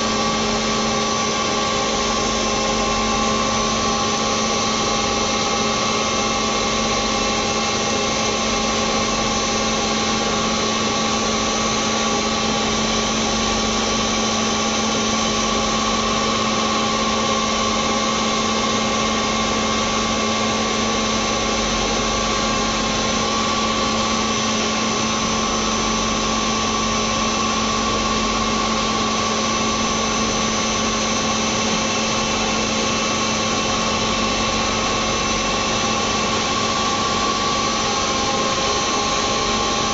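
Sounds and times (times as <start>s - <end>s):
machine humming with whine: 0.0s - 39.9s.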